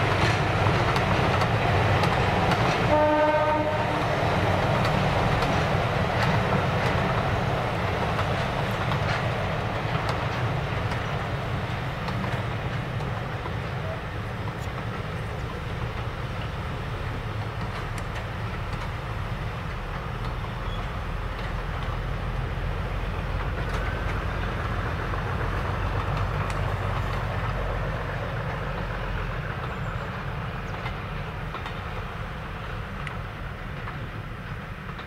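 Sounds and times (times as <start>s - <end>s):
diesel train passing: 0.0s - 35.0s.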